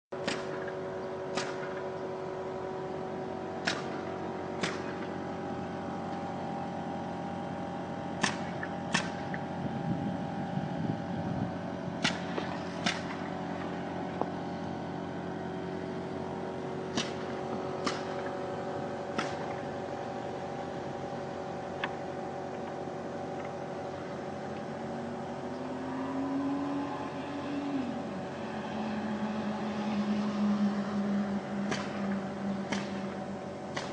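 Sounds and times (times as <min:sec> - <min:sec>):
machine hum: 0:00.1 - 0:33.9.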